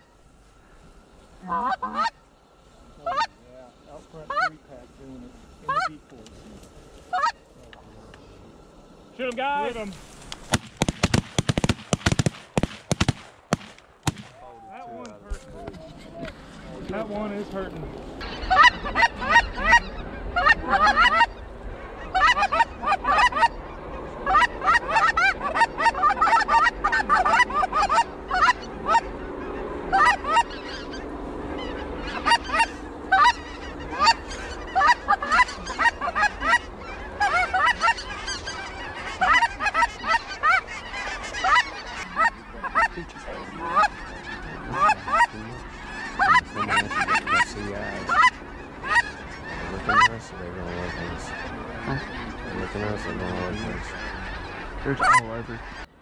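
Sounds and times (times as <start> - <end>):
geese honking: 0.0 - 7.6, 15.6 - 56.0.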